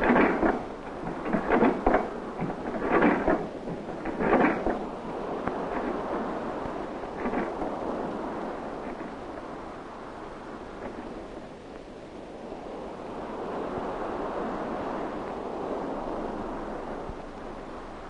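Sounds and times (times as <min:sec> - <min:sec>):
waves: 0:00.0 - 0:18.0
wind: 0:00.0 - 0:18.0.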